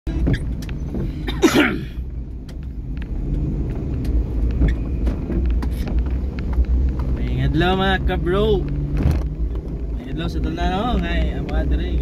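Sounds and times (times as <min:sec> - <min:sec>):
car cabin rumble: 0:00.1 - 0:12.0.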